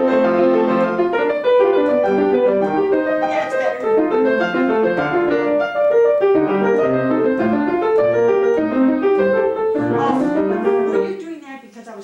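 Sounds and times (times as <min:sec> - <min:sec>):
acoustic piano playing: 0:00.0 - 0:11.3.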